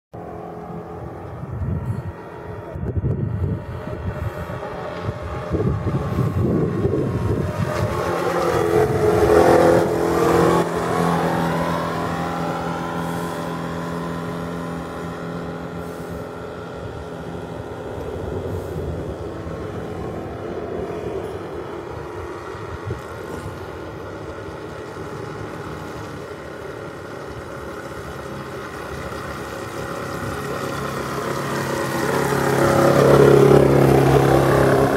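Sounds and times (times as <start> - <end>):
model boat engine running: 0.2 - 34.9.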